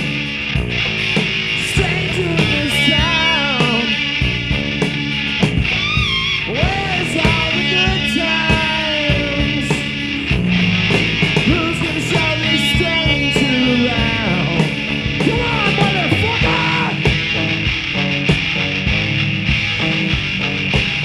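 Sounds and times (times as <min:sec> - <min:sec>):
bass and drums: 0:00.0 - 0:21.0
electric guitar lead: 0:00.0 - 0:21.0.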